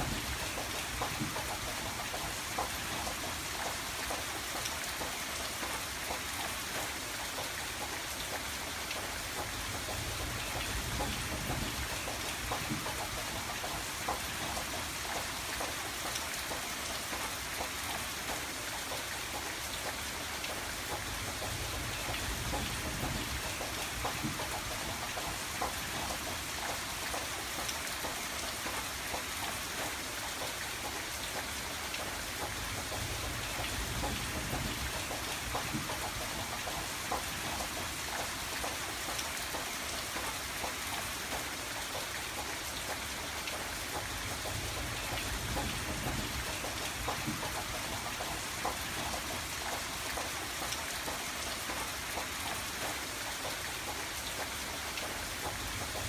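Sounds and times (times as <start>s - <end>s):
rain on a window pane: 0.0s - 56.0s.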